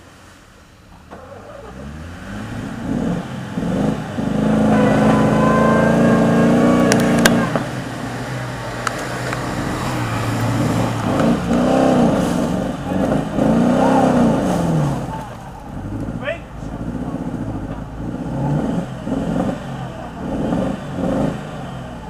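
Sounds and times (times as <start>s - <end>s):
engine revving hard: 1.1s - 22.0s.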